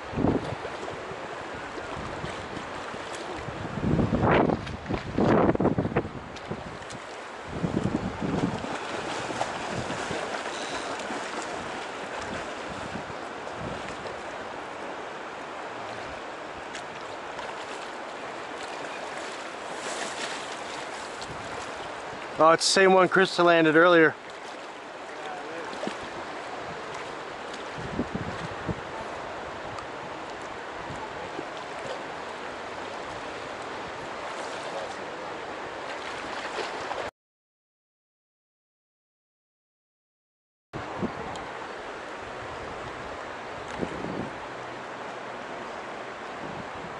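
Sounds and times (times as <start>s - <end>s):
shallow river flowing: 0.0s - 37.1s, 40.8s - 46.9s.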